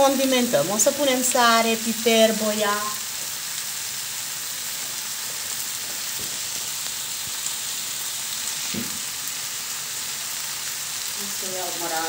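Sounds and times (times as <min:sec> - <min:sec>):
meat and onion sizzling in pan: 0:00.0 - 0:12.0.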